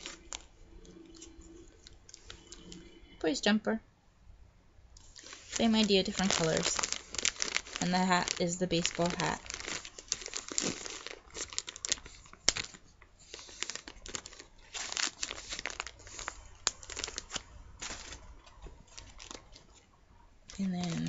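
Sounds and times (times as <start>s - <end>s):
plastic bag crinkling: 0.0s - 3.1s, 5.0s - 19.9s, 20.5s - 21.0s.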